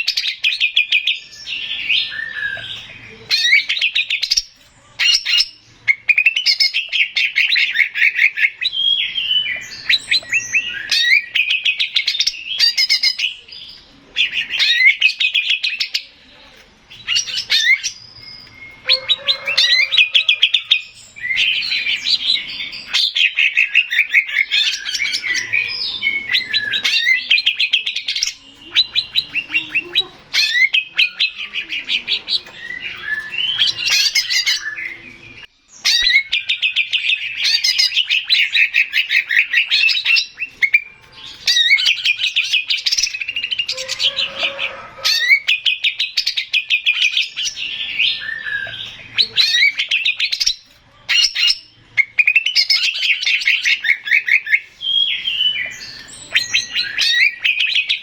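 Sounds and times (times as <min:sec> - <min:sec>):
bird singing trills and whistles: 0:00.0 - 0:58.0.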